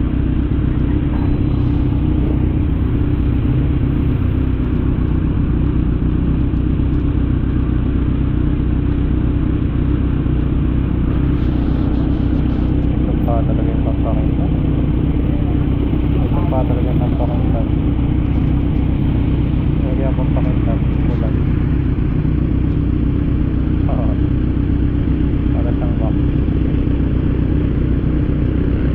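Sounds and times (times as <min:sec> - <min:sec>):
motorcycle engine cruising: 0:00.0 - 0:28.9.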